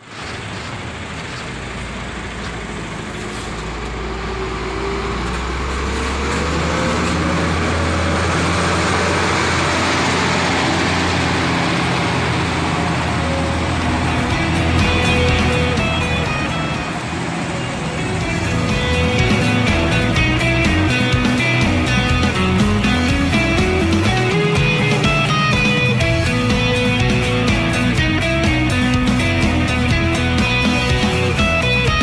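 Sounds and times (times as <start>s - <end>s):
bus diesel engine pulling away: 0.0s - 32.0s.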